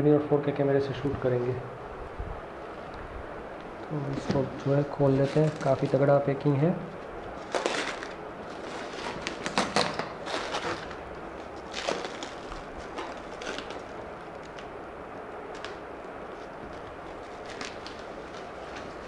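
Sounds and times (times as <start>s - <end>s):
plastic shrink wrap crackling: 3.6s - 19.0s.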